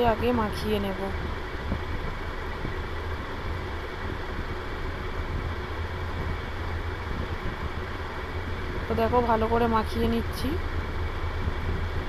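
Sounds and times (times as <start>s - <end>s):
steady low motor hum: 0.0s - 12.0s.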